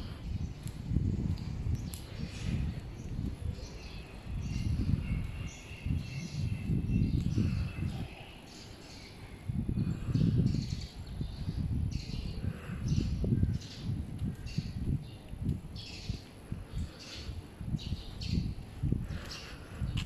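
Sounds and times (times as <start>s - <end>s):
birds chirping: 1.8s - 20.0s.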